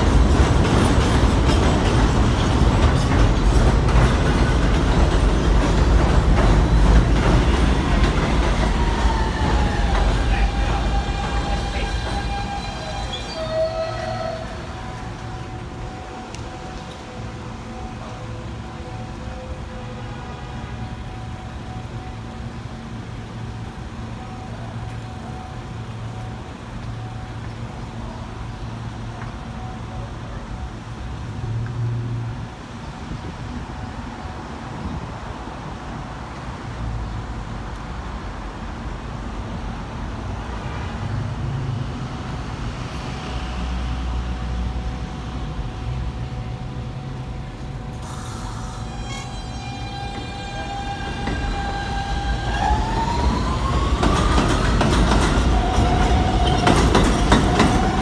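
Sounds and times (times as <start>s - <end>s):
low rumble of trains and traffic: 0.0s - 58.0s
subway train arriving with whine: 0.0s - 58.0s.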